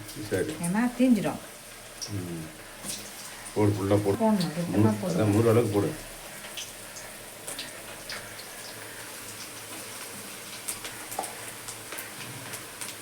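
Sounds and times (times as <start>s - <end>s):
food deep-frying in hot oil: 0.0s - 13.0s
oil popping and crackling: 0.0s - 13.0s.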